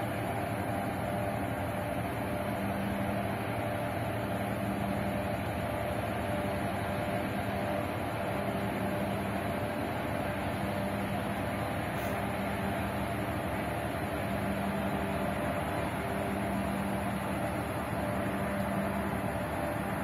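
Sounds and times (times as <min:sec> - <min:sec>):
ship engines humming: 0:00.0 - 0:20.0.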